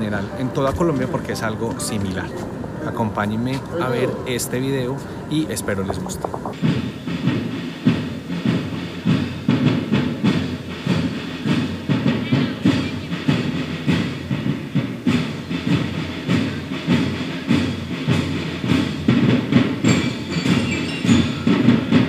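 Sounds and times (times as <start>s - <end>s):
rhythmic knocking: 0.0s - 22.0s.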